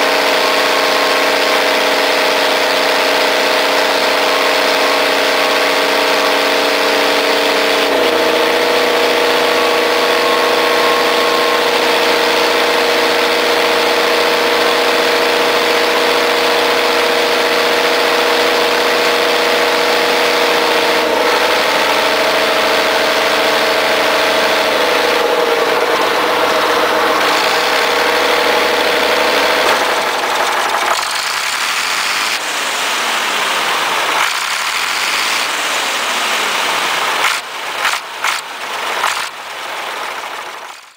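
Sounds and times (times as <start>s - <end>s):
diesel engine of a loader running: 0.0s - 40.9s.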